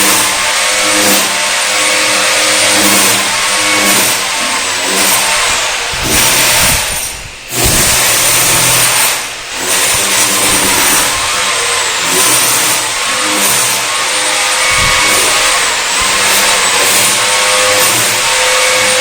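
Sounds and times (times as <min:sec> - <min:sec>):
power tool motor cutting: 0:00.0 - 0:19.0.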